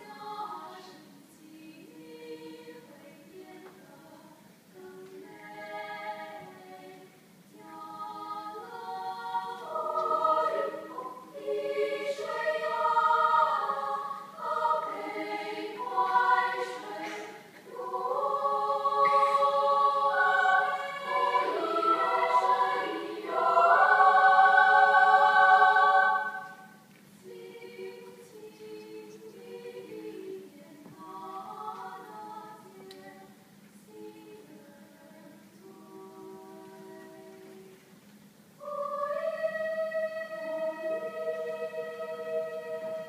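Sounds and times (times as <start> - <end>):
choir singing in parts: 0.0 - 37.8, 38.6 - 43.0.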